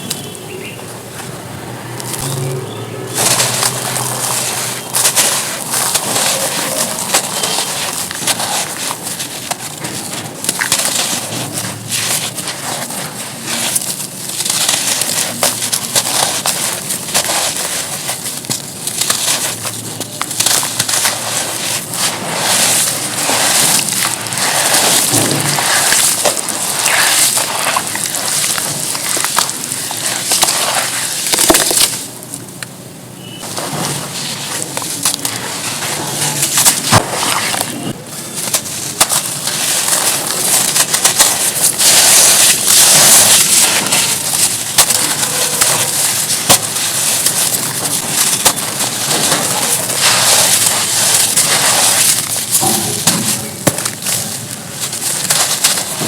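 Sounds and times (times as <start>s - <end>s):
charcoal crunching and crackling: 0.0s - 56.0s.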